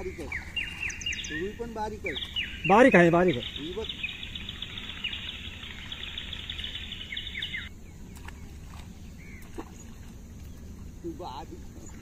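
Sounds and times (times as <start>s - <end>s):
birds chirping: 0.0s - 12.0s
low outdoor hum: 0.0s - 12.0s.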